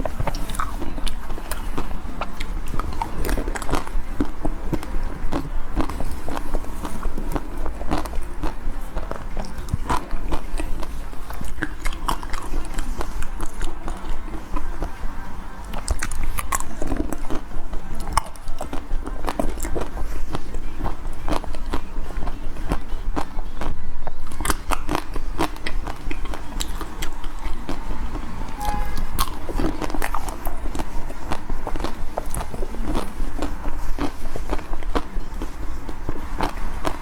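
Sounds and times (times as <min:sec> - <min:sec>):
crunchy chocolate coating chewing: 0:00.0 - 0:37.0.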